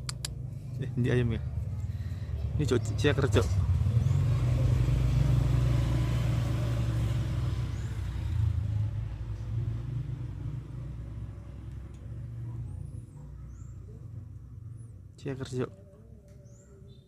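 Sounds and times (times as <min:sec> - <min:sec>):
vehicle engine rumbling: 0:00.0 - 0:16.8.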